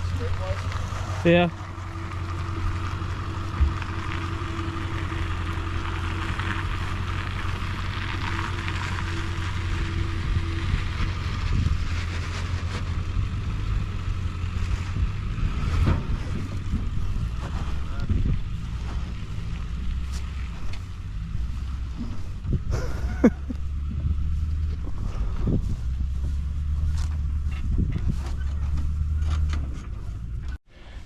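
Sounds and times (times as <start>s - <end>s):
excavator diesel engine running: 0.0s - 30.6s.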